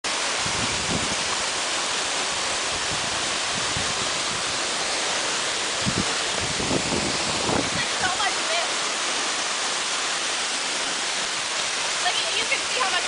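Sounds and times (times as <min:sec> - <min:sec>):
waterfall roaring: 0:00.1 - 0:13.0.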